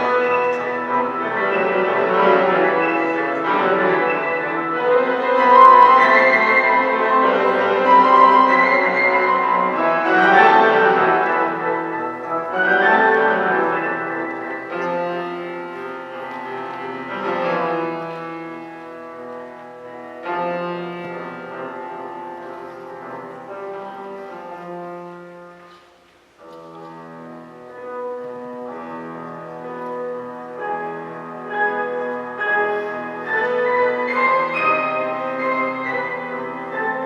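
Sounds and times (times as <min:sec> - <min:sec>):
held melodic notes: 0:00.0 - 0:37.0
piano: 0:00.0 - 0:37.0.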